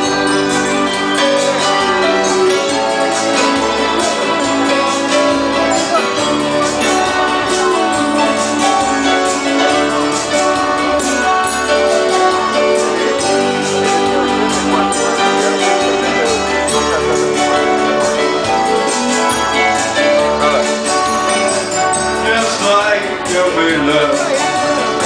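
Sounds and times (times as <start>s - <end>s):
band playing dance music: 0.0s - 25.0s
keyboard melody: 0.0s - 25.0s.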